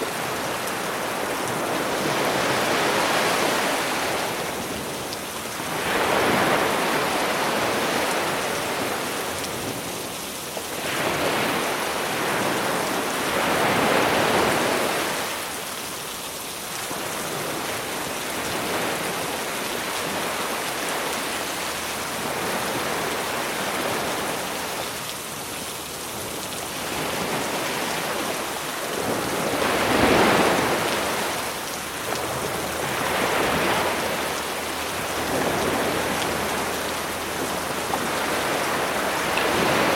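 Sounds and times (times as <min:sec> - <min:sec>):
rain hiss: 0:00.0 - 0:39.9
waves breaking on shore: 0:00.0 - 0:39.9.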